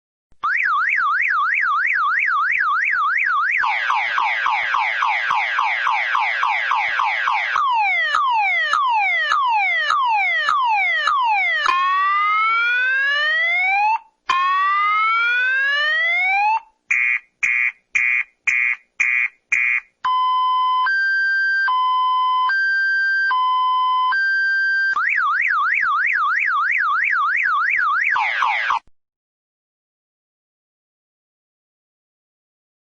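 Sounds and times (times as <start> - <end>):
car alarm siren cycling patterns: 0.4 - 28.9.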